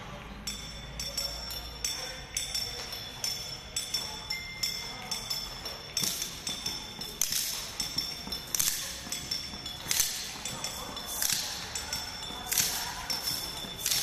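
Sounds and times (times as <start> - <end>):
sticks clacking together: 0.5 - 14.0.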